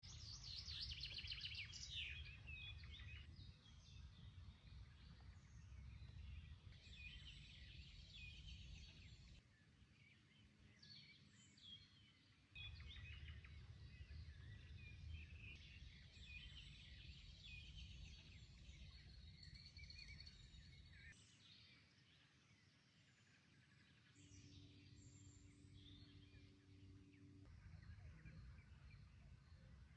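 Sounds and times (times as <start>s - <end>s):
songbirds chirping and trilling: 0.0s - 29.9s.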